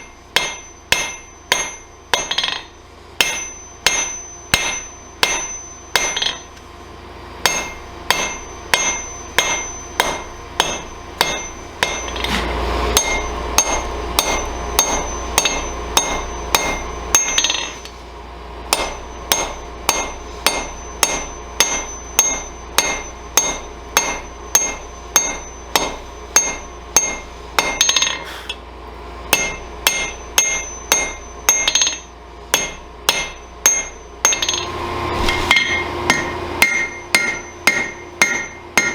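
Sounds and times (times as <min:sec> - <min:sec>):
hammer striking iron on anvil: 0:00.0 - 0:06.6, 0:07.4 - 0:18.0, 0:18.7 - 0:28.6, 0:29.3 - 0:38.9.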